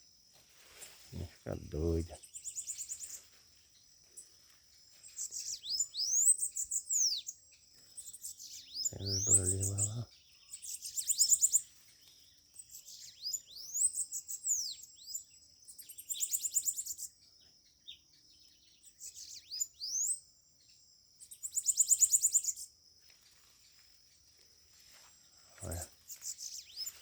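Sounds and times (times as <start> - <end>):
birds singing buzzy trills: 0.0 - 27.0.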